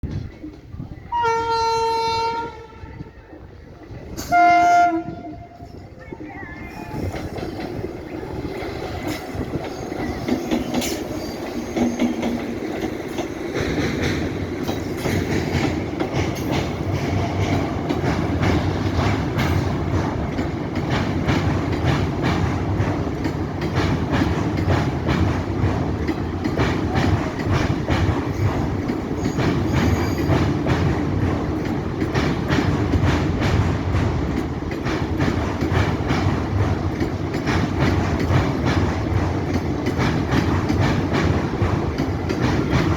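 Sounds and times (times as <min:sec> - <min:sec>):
train rumble: 0:00.0 - 0:42.9
train wheels clattering over rail joints: 0:06.6 - 0:42.9.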